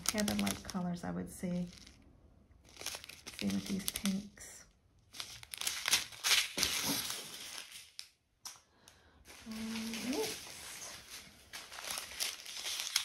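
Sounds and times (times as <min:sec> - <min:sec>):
plastic bags rustling and crinkling: 0:00.0 - 0:02.0, 0:02.6 - 0:08.2, 0:09.2 - 0:13.0.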